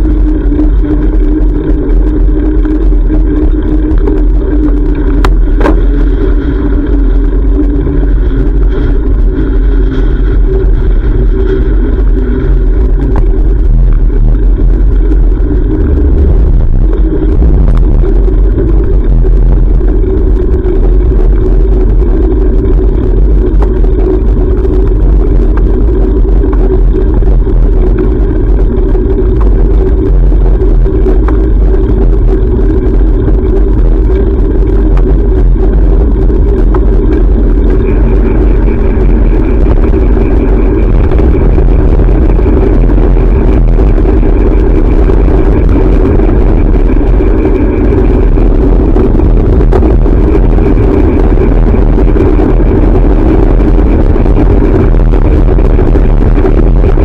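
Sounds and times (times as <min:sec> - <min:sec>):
faint high whine: 0:00.0 - 0:57.0
wind and road rumble: 0:00.0 - 0:57.0.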